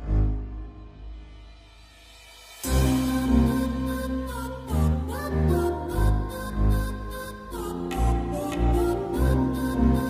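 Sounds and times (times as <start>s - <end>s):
background music sustained notes: 0.0s - 10.0s.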